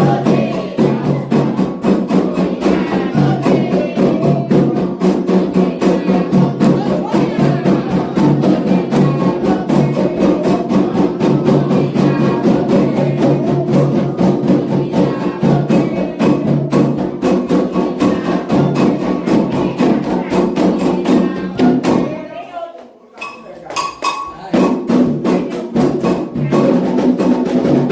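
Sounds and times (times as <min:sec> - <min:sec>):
hand drums fast rhythm: 0:00.0 - 0:22.5, 0:23.2 - 0:27.9
group singing: 0:00.0 - 0:27.9.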